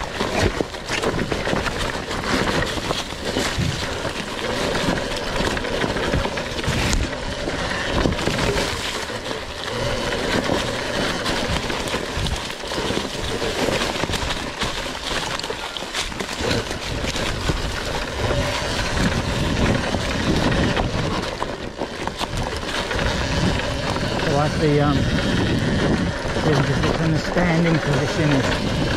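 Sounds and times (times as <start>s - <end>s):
tyre and trail noise: 0.0s - 28.9s
wheels knocking on rocks: 0.0s - 28.9s.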